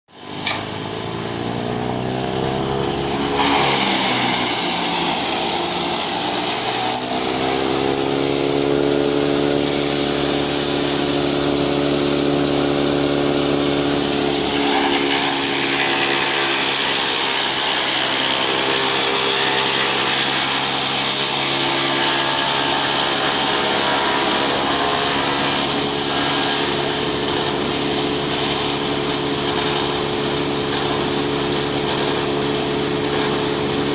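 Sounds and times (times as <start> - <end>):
wood chipper high hiss: 0.1 - 33.9
tractor engine revving: 0.4 - 33.9.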